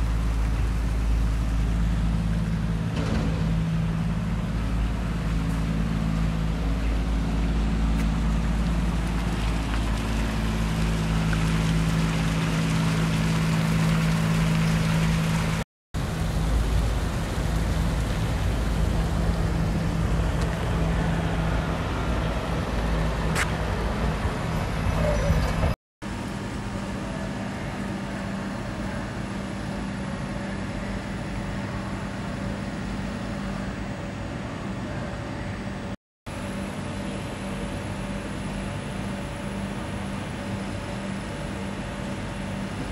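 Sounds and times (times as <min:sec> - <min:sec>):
engine hum and rumble: 0:00.0 - 0:42.9.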